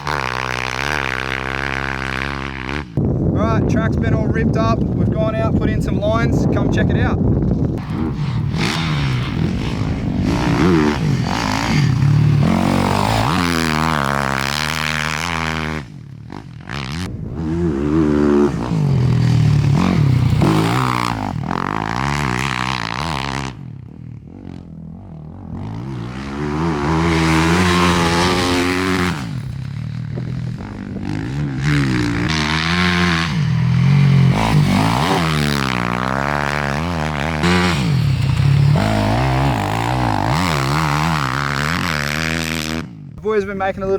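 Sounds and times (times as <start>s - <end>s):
motocross bike engine revving: 0.0s - 3.0s, 7.6s - 43.5s.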